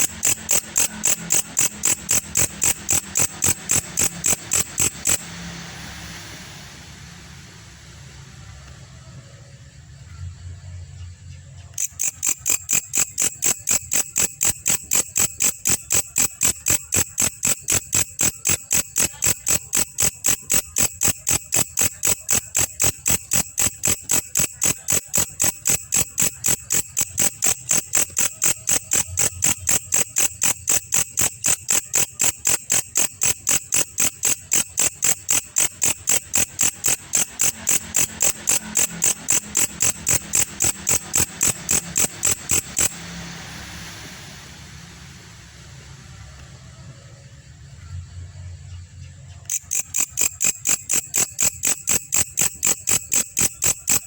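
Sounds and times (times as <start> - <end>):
katydid high-pitched ticks: 0.0 - 6.4, 11.7 - 44.2, 49.3 - 54.0.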